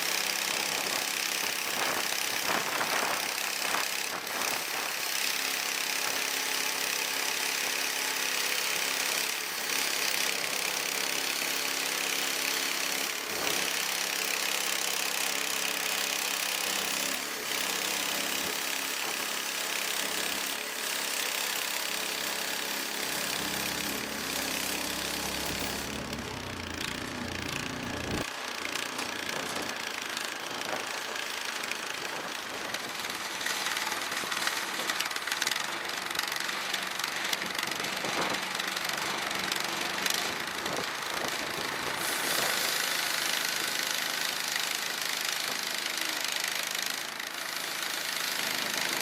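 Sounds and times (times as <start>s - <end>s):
engine running: 0.0s - 49.0s.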